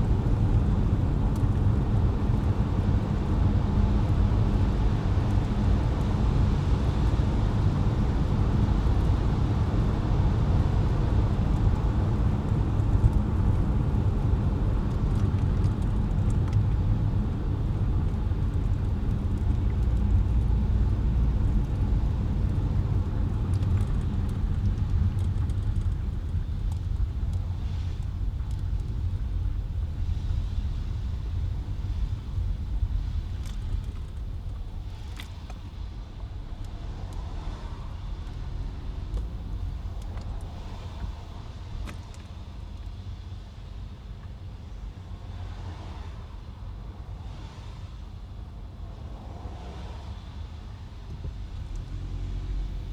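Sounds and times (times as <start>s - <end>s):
car road and engine rumble: 0.0s - 52.9s.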